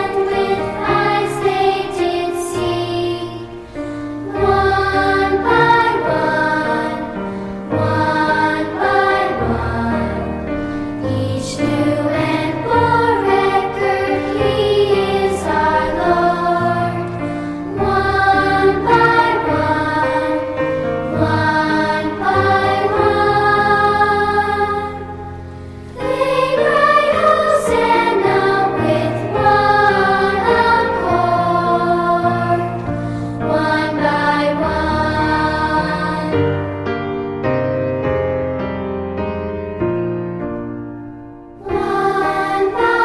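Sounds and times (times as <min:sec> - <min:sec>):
choir singing: 0:00.0 - 0:36.9, 0:41.6 - 0:43.0.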